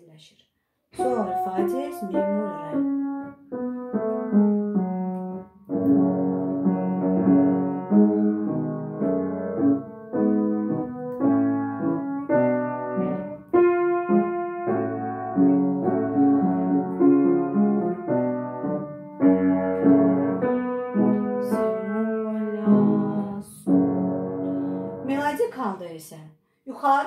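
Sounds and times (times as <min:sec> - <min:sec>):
piano chords: 0:01.0 - 0:25.5.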